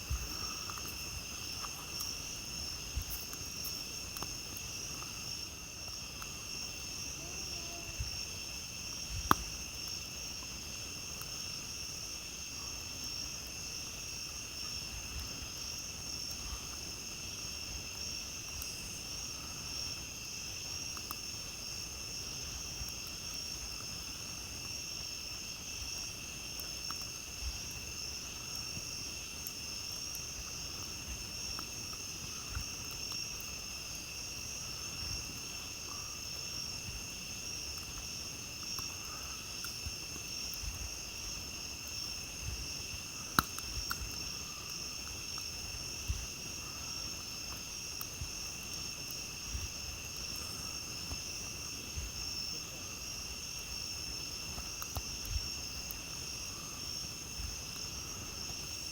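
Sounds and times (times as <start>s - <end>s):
campfire crackling: 0.0s - 58.9s
night insects chorus: 0.0s - 58.9s.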